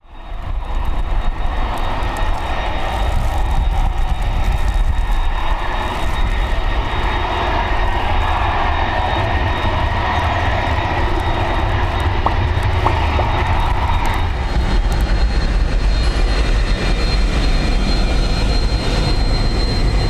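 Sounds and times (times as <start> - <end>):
high engine whine: 0.0 - 20.0
jet engines roaring: 0.0 - 20.0.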